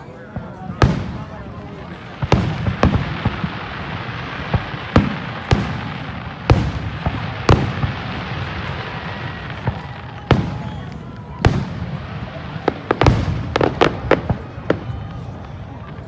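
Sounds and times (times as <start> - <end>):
fireworks bangs: 0.0 - 16.0
fireworks crackling hiss: 0.0 - 16.0.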